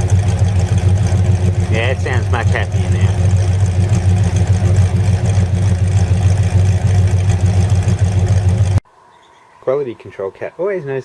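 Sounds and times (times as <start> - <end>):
car engine low rumble: 0.0 - 8.8.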